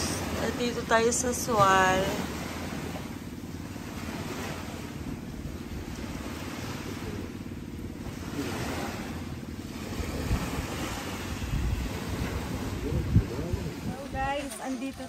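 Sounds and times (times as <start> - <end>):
waves washing onto rocky shore: 0.0 - 7.4, 8.1 - 15.0
wind rumbling on microphone: 0.0 - 15.0.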